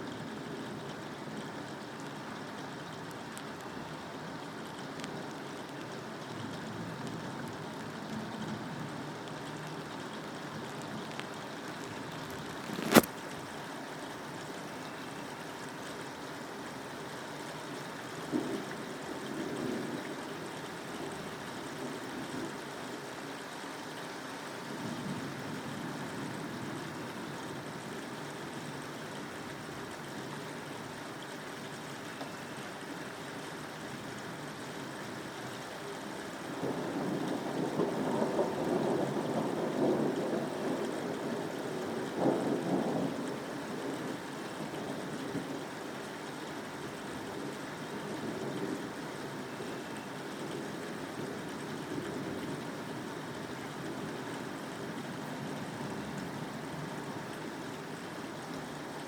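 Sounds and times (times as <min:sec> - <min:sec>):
steady rain hissing: 0:00.0 - 0:59.0.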